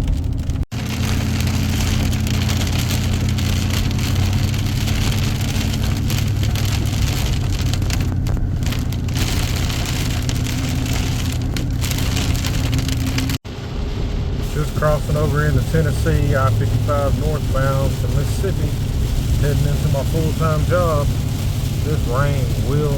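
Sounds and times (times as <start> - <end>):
car engine and road hum: 0.0 - 22.9
rain on car: 0.0 - 22.9.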